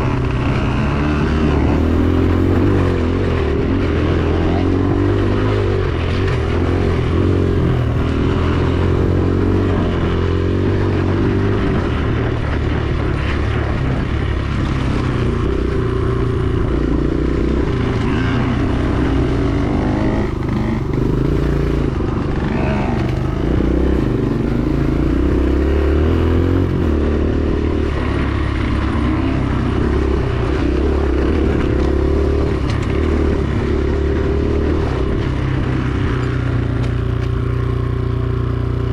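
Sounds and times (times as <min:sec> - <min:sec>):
dirt bike engine revving: 0:00.0 - 0:36.2.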